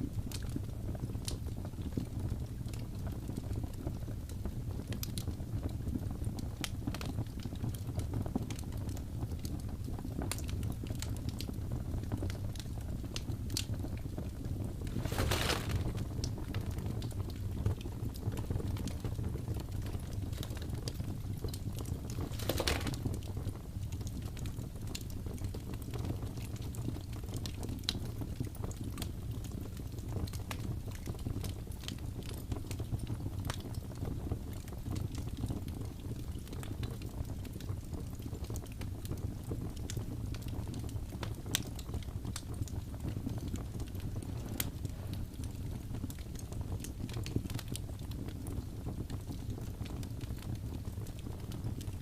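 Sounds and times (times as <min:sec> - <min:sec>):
low rumble of flames: 0:00.0 - 0:52.0
wood fire crackling: 0:00.0 - 0:52.0.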